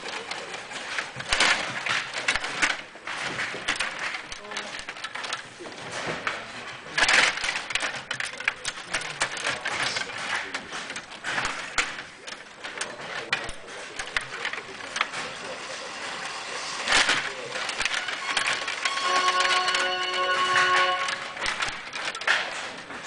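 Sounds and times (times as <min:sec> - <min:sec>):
metal rods clicking and rattling: 0:00.0 - 0:23.0
plastic puck and players clacking: 0:00.0 - 0:23.0.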